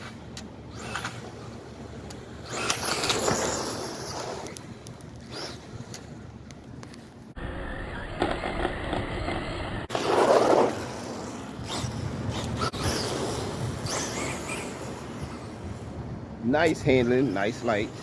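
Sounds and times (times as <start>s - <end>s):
toy car motor and tires rolling: 0.0s - 6.1s, 6.8s - 15.8s.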